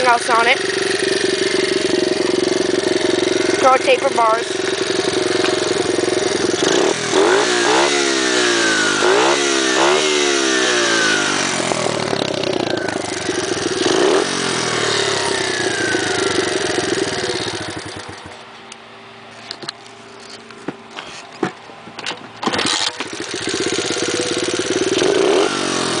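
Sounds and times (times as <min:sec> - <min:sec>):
motorbike engine revving: 0:00.0 - 0:18.5, 0:22.4 - 0:26.0.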